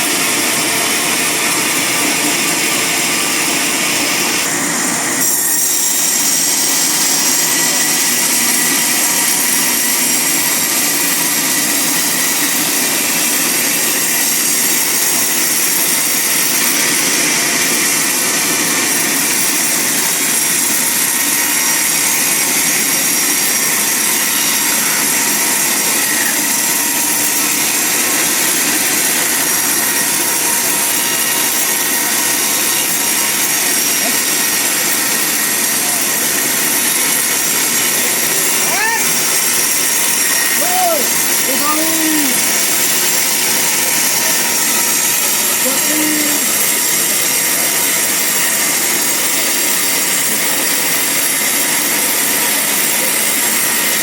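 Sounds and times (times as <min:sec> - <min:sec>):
band saw cutting a log: 0:00.0 - 0:54.0.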